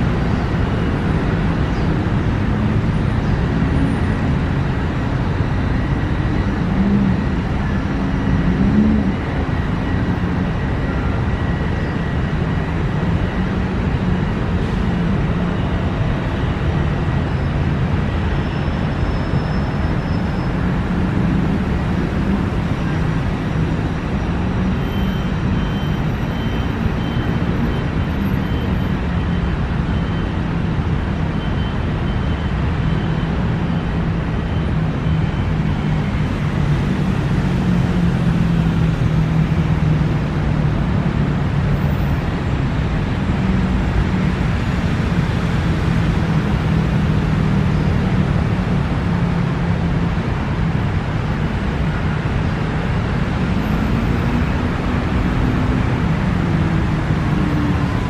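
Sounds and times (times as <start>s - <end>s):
city road traffic rumble: 0.0s - 58.0s.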